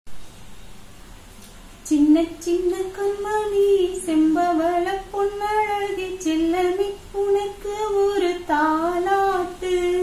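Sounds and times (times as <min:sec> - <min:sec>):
woman singing solo: 0:01.8 - 0:10.0.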